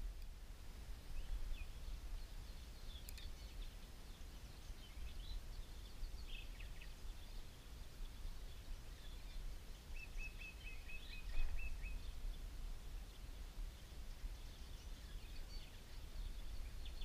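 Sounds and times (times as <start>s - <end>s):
small birds chirping: 0.9s - 17.0s.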